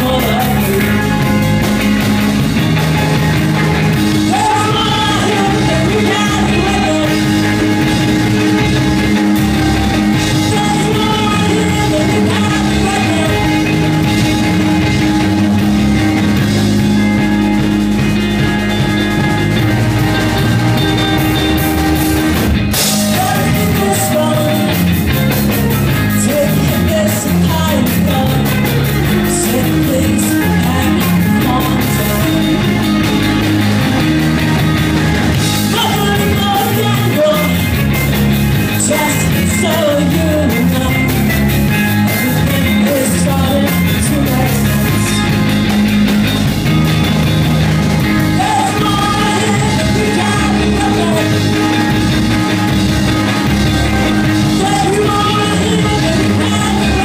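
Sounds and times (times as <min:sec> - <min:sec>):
person singing: 0:00.0 - 0:02.0, 0:02.7 - 0:16.6, 0:19.6 - 0:34.6, 0:35.2 - 0:45.5, 0:48.2 - 0:52.8, 0:53.4 - 0:57.0
live rock band playing: 0:00.0 - 0:57.0.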